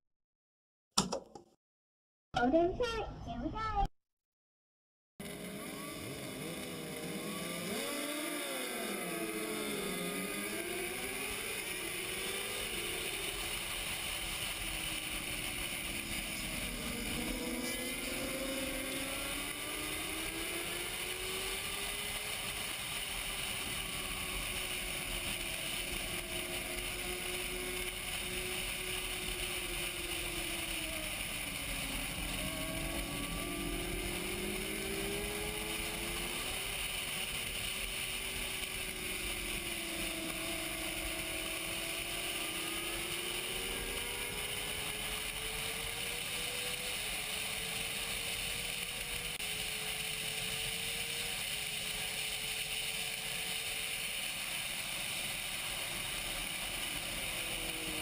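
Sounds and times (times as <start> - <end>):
motorcycle engine revving: 5.2 - 58.0.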